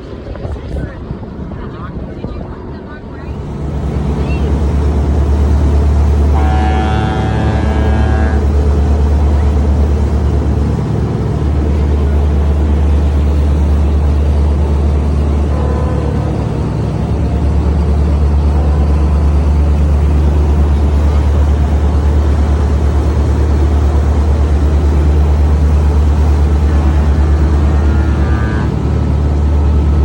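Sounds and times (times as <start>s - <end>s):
motorboat engine drone: 2.2s - 30.0s.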